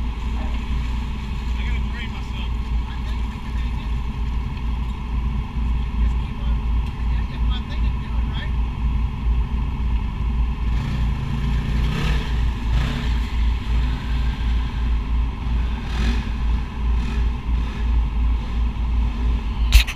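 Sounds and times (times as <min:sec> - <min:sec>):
vehicle engine idling: 0:00.0 - 0:19.9.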